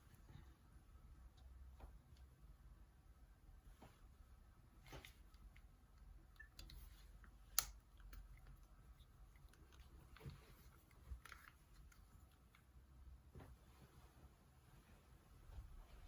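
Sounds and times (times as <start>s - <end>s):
faint clicks and handling noise: 0.0s - 16.0s.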